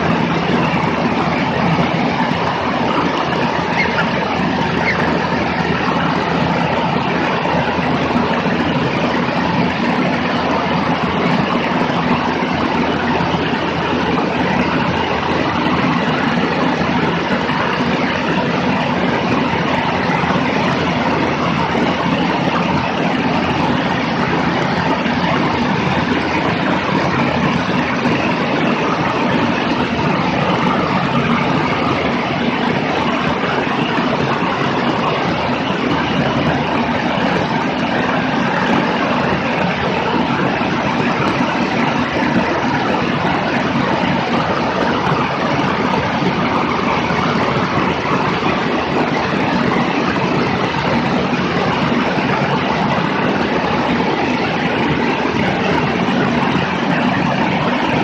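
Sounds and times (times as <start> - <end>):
airplane engine and propeller drone: 0.0 - 58.0.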